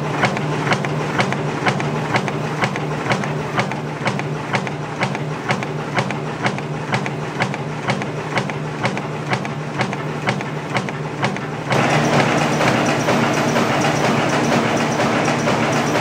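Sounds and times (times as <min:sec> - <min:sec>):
machine clacking: 0:00.0 - 0:16.0
machine running noise: 0:00.0 - 0:16.0.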